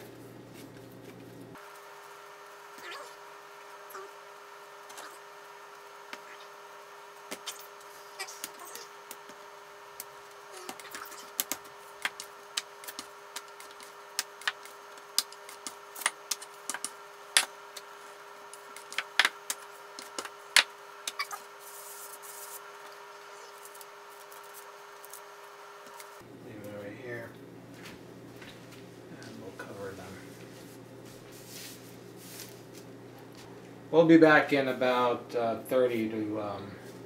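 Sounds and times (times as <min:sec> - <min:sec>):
faint hum: 0:00.0 - 0:37.0.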